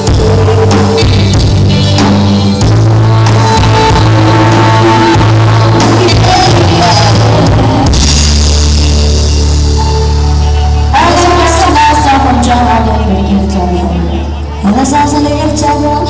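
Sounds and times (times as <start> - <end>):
pop-rock band playing a ballad: 0.0 - 13.6.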